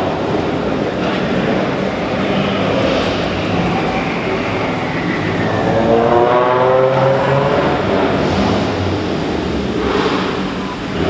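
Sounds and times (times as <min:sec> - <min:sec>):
car engines running: 0:00.0 - 0:11.0
engine revving: 0:00.0 - 0:11.0.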